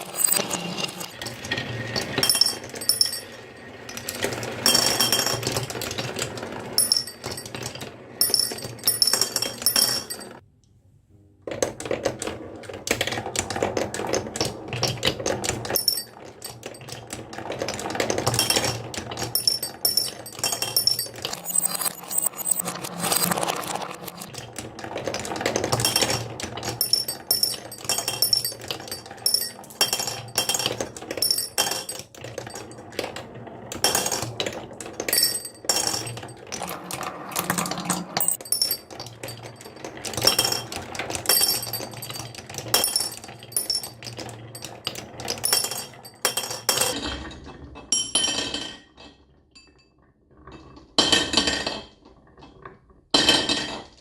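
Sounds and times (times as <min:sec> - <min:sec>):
marbles clattering down wooden run: 0:00.0 - 0:10.4, 0:11.8 - 0:47.0.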